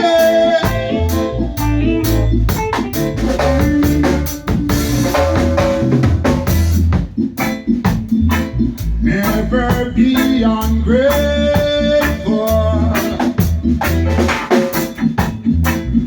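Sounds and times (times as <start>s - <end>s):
deep bass line: 0.0s - 16.0s
drum kit strokes: 0.0s - 16.0s
reggae band playing: 0.0s - 16.0s.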